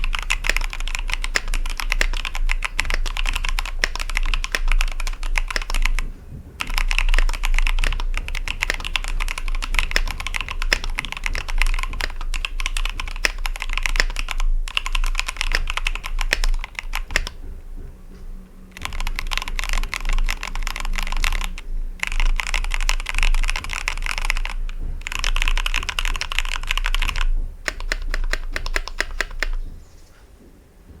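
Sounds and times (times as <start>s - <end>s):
fast typing on mechanical keyboard: 0.0s - 17.6s, 18.7s - 29.7s.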